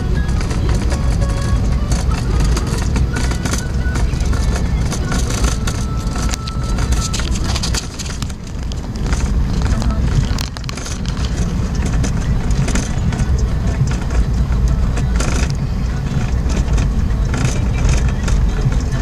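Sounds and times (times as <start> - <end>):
car rumbling on gravel road: 0.0 - 19.0
stones rattling under tyres: 0.0 - 19.0.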